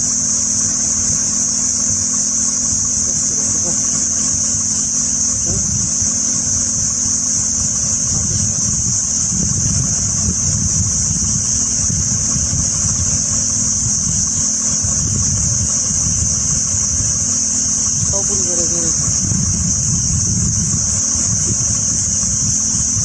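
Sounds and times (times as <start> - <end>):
cicadas droning: 0.0 - 23.0
low uneven rumble: 3.0 - 23.0.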